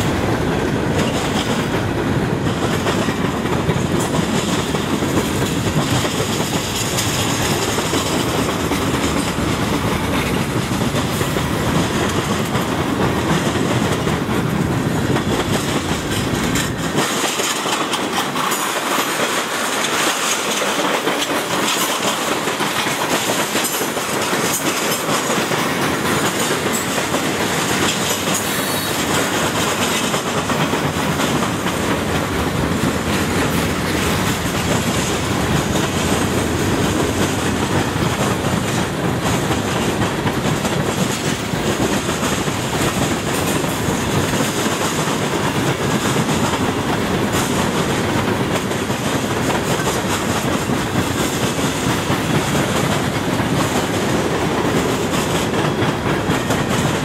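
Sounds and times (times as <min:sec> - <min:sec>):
freight train rolling past: 0:00.0 - 0:57.0
wheels clicking over rail joints: 0:00.0 - 0:57.0.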